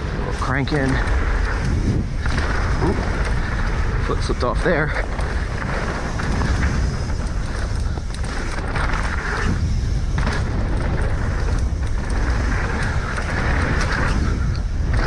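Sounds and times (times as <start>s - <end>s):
bike tyres on dirt trail: 0.0s - 15.0s
wind rushing over microphone: 0.0s - 15.0s.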